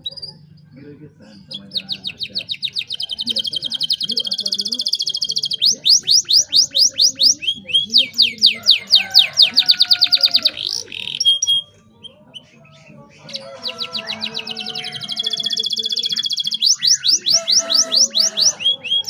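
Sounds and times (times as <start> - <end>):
canary singing in fast trills: 0.0 - 19.0.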